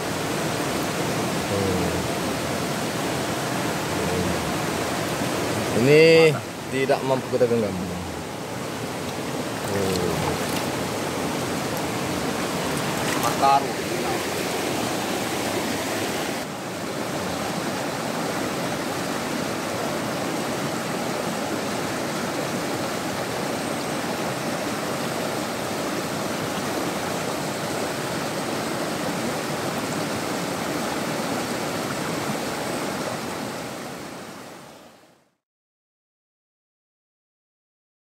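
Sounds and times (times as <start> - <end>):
river water rushing over boulders: 0.0 - 35.1.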